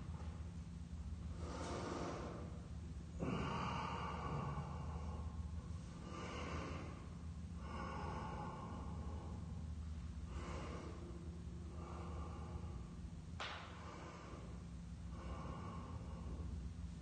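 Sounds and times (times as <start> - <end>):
steady low hum: 0.0 - 17.0
man breathing in and out: 1.1 - 17.0.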